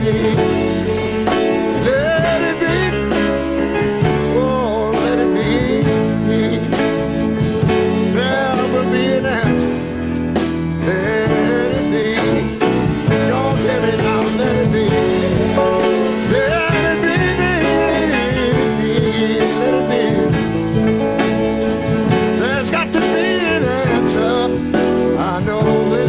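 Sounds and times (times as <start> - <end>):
piano-led soul ballad band: 0.0 - 26.0.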